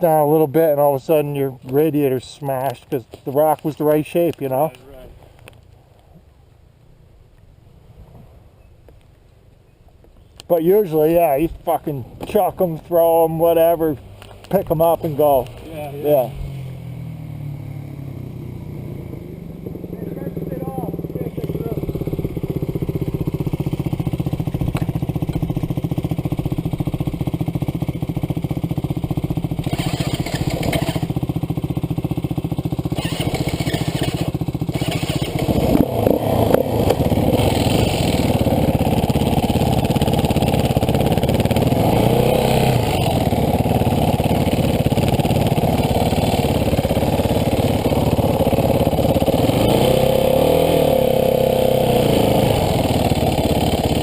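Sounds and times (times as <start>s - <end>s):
dirt bike engine revving: 10.6s - 54.0s.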